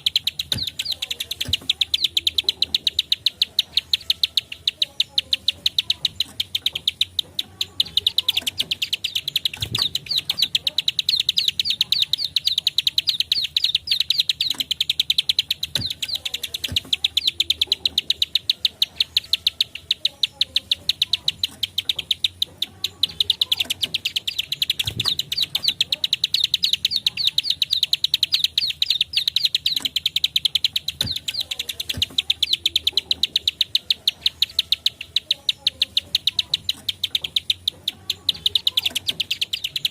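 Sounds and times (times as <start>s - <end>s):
bird calling sharp klik notes: 0.0s - 39.9s.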